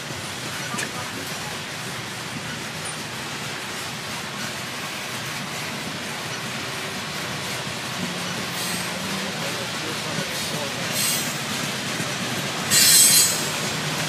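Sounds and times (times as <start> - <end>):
freight train wheels rolling on rail: 0.0 - 14.0.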